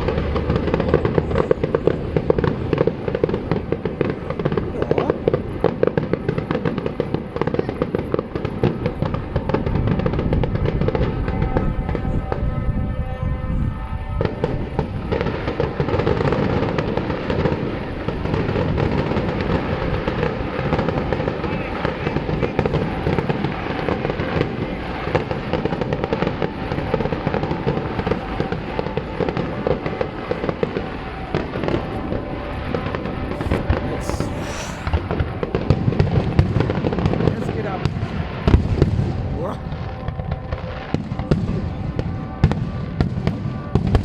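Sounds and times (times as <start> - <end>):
fireworks bangs and crackling: 0.0 - 12.0, 14.2 - 27.8, 33.4 - 44.0.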